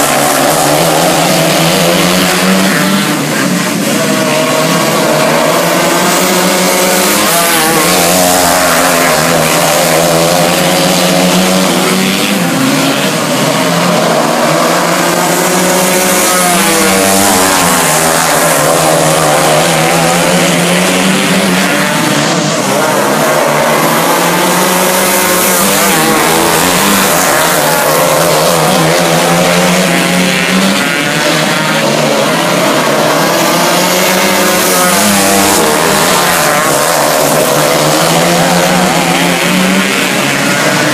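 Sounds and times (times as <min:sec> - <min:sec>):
racing kart engines revving: 0:00.0 - 0:40.9.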